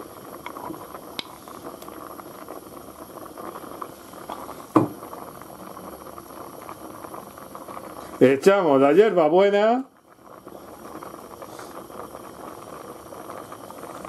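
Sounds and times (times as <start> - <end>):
pot bubbling: 0.0 - 14.0.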